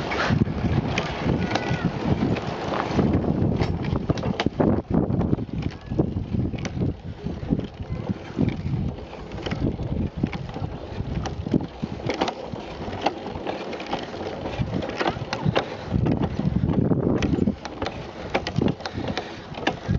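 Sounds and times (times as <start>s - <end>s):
wind on microphone: 0.0s - 13.4s, 14.0s - 19.9s
low rumble of wheels: 0.0s - 19.9s
pedal go-kart rattling: 0.0s - 19.9s.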